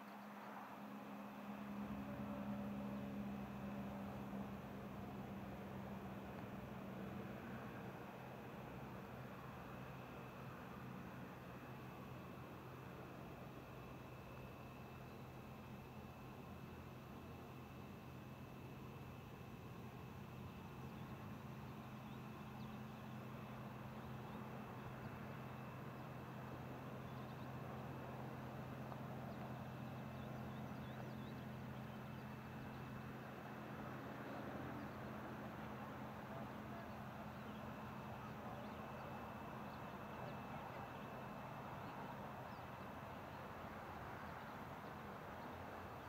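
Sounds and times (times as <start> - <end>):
distant engine drone: 0.0 - 46.0.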